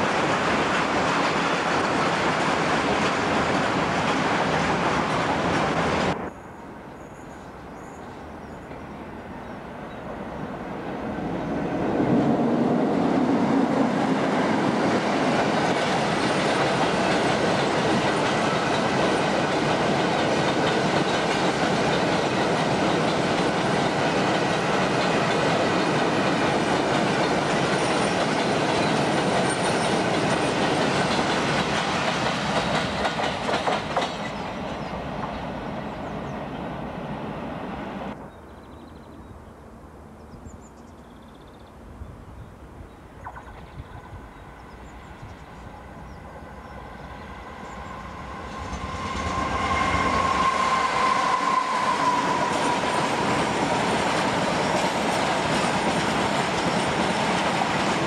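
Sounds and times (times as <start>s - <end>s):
diesel locomotive engine: 0.0s - 7.6s, 8.2s - 38.4s, 43.5s - 58.0s
loud rail sound: 0.0s - 38.5s, 42.3s - 58.0s.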